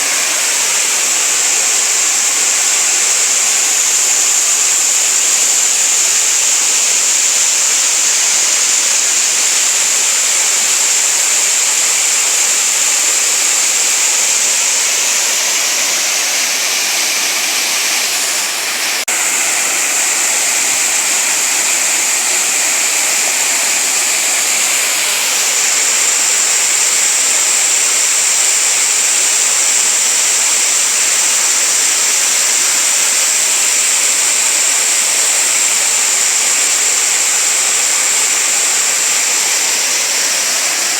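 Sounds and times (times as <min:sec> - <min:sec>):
waterfall rushing over rocks: 0:00.0 - 0:40.9.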